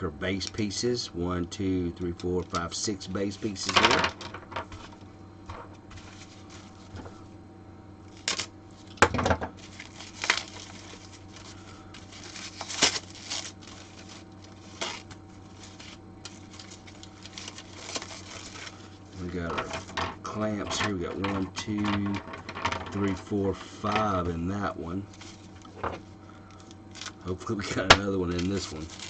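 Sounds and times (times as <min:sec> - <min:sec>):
steady low hum: 0:00.0 - 0:29.0
plastic packaging rustling: 0:02.2 - 0:07.2, 0:08.1 - 0:29.0.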